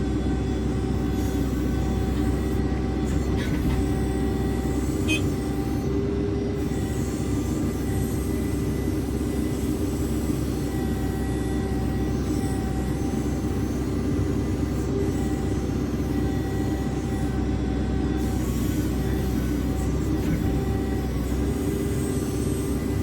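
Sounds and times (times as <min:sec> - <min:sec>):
backhoe diesel engine running: 0:00.0 - 0:23.0.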